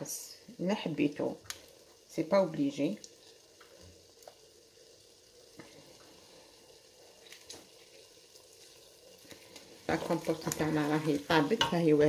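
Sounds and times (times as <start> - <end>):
compote simmering hiss: 0.0 - 12.0.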